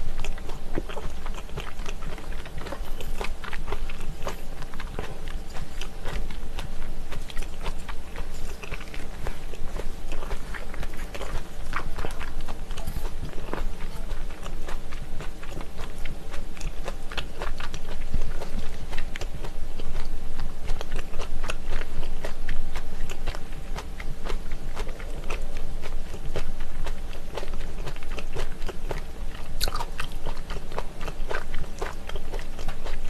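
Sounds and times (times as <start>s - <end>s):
cartilage crunching: 0.0s - 33.0s
chewing and biting meat: 0.0s - 33.0s.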